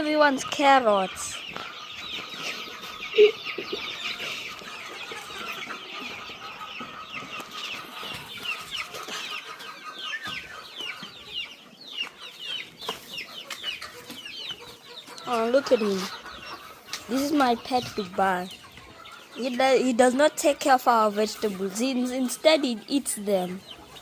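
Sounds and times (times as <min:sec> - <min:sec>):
chicks peeping and cheeping: 0:00.0 - 0:24.0.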